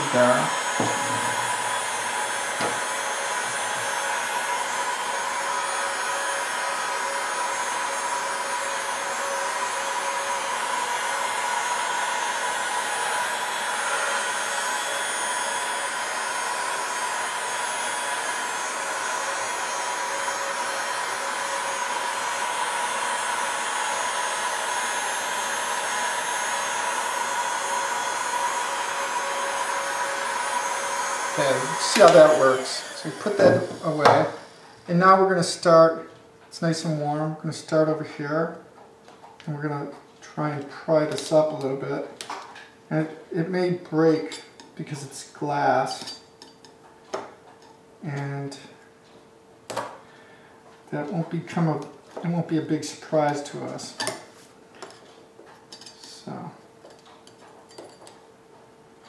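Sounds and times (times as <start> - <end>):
heat gun fan whining: 0.0 - 59.0.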